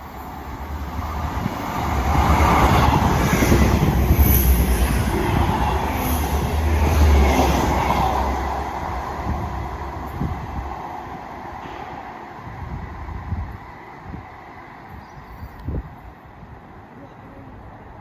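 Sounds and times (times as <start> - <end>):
train wheels on rails: 0.0 - 16.4.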